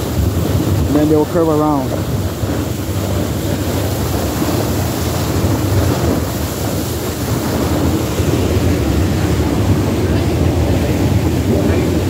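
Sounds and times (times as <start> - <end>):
low boat rumble: 0.0 - 12.0
water rushing: 0.0 - 12.0
wind buffeting the microphone: 0.0 - 12.0.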